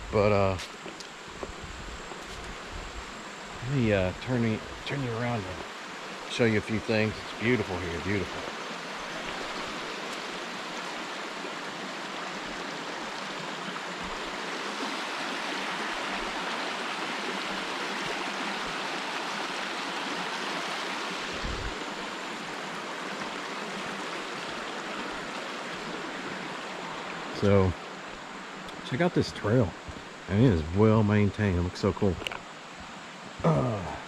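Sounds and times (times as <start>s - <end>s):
stream water rushing over rocks: 0.0s - 34.0s.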